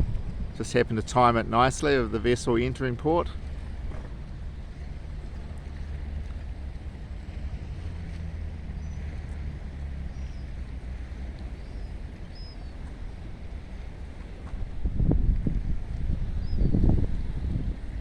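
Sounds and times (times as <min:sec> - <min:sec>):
low drone of ship engines: 0:00.0 - 0:18.0.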